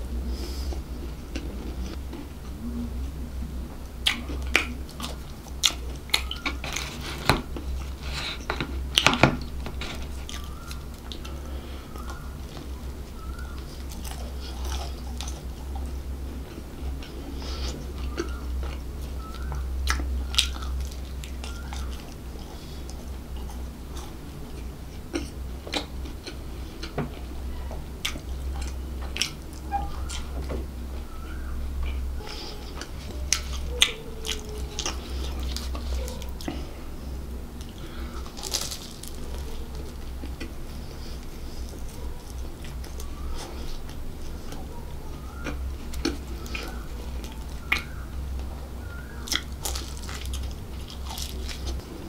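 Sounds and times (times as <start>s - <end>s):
low steady hum: 0.0s - 52.0s
crunchy pastry chewing: 0.1s - 52.0s.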